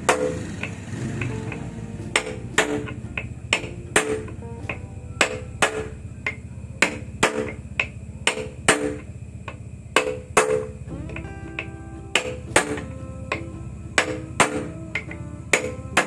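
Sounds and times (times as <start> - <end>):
hammer tapping on steel: 0.1 - 16.0.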